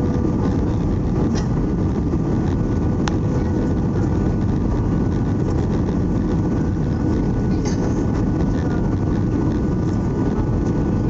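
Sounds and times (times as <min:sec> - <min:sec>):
airplane cabin engine and airflow noise: 0:00.0 - 0:11.0.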